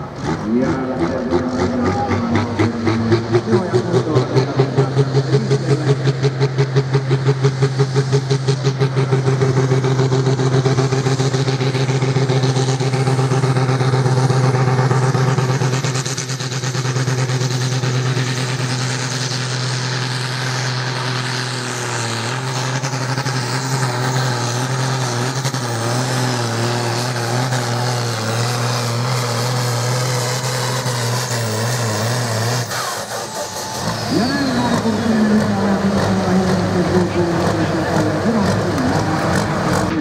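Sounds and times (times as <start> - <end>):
tractor engine running hard: 0.0 - 40.0.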